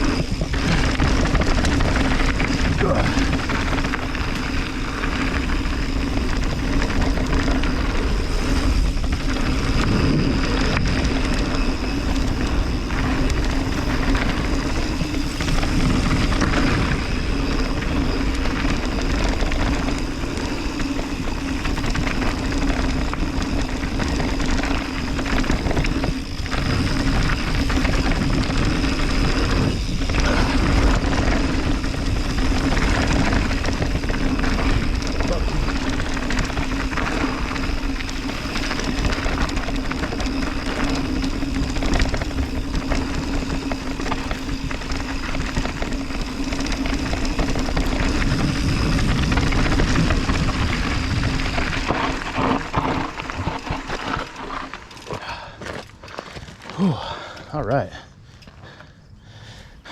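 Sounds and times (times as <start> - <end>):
wind rushing over microphone: 0.0 - 55.2
steady hum: 0.0 - 55.8
bike tyres rumbling and rattling: 0.0 - 59.9.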